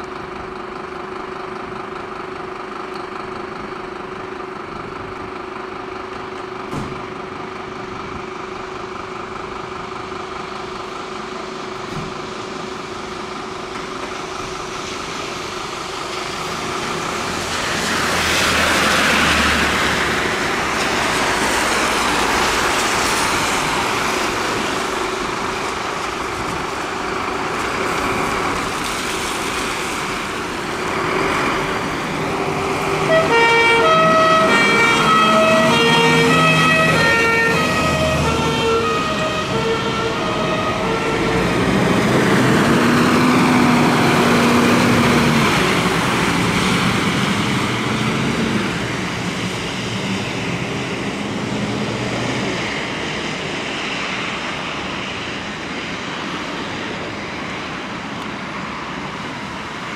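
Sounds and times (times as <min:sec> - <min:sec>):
emergency vehicle siren: 0:00.0 - 0:59.9
road traffic passing: 0:00.0 - 0:59.9.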